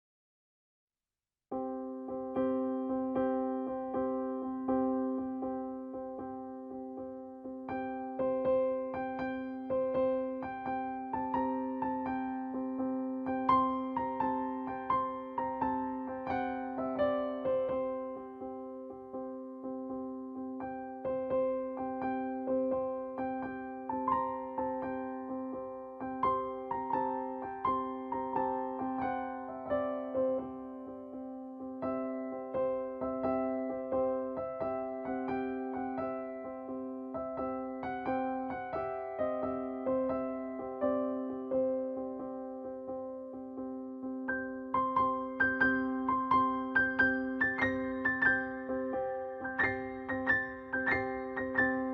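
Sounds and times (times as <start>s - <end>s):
electric piano melody: 1.5s - 51.9s.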